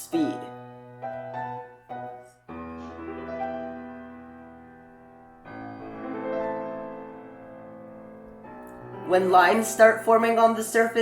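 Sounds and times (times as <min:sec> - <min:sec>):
solo piano chords: 0:00.0 - 0:11.0.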